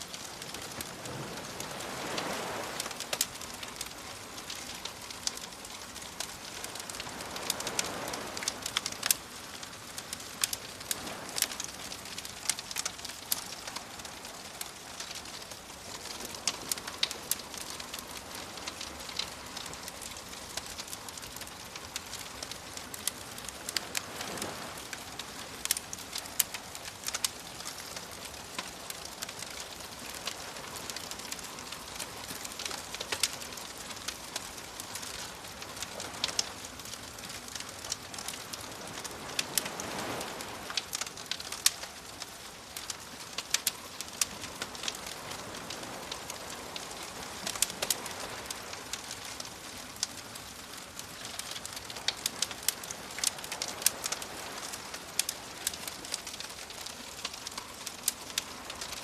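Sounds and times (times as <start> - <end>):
campfire crackling and popping: 0.0 - 59.0
soft waves washing in: 0.0 - 59.0.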